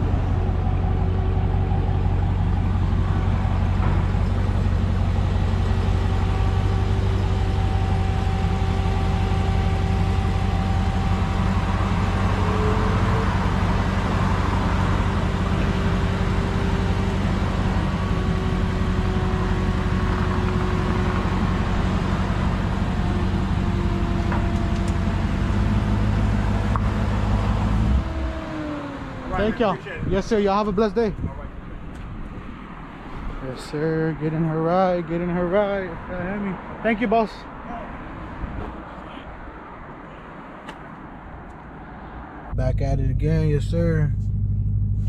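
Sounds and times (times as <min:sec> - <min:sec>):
car engine droning: 0:00.0 - 0:45.0.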